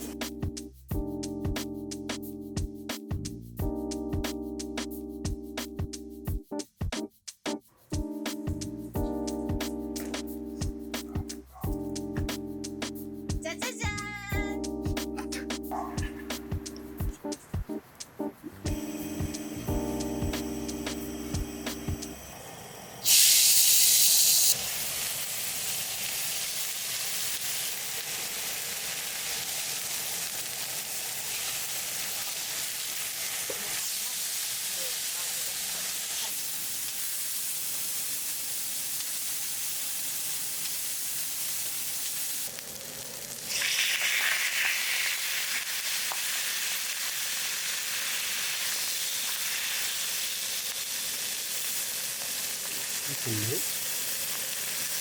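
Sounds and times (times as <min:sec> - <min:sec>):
food sizzling on a grill pan: 0:08.3 - 0:55.0.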